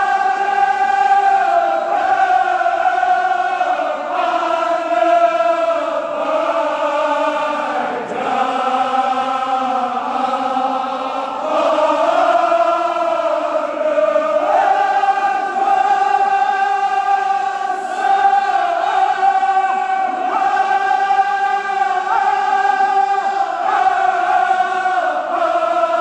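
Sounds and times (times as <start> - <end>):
men's chorus chanting: 0.0 - 26.0.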